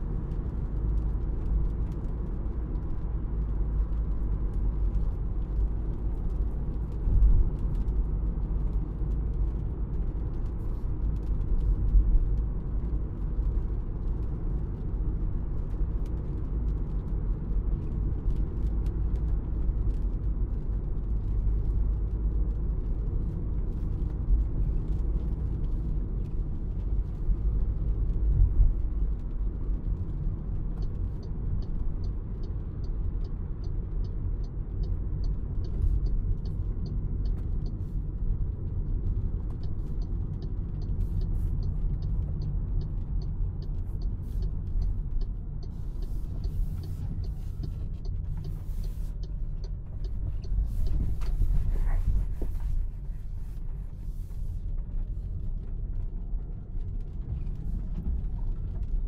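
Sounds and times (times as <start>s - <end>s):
car road and drivetrain rumble: 0.0s - 59.0s
light regular ticking: 0.0s - 59.0s.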